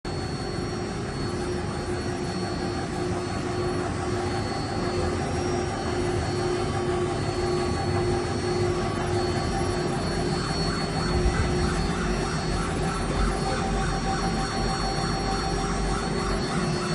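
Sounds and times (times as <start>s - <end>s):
engraving machine spindle whine: 0.1s - 16.9s.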